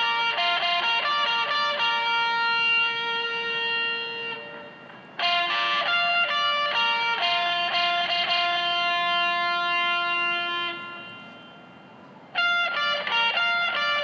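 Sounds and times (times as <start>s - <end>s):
guitar playing slow melody: 0.0s - 14.0s.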